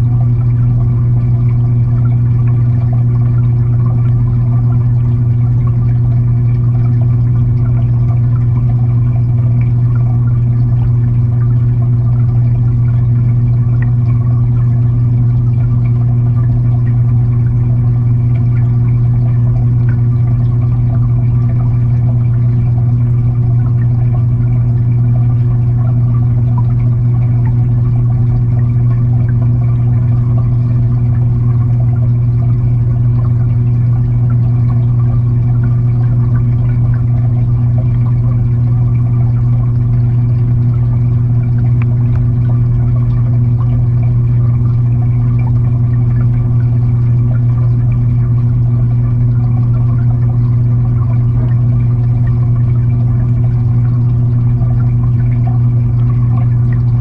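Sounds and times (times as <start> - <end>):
aquarium filter hum underwater: 0.0 - 57.0
moving water wash: 0.0 - 57.0.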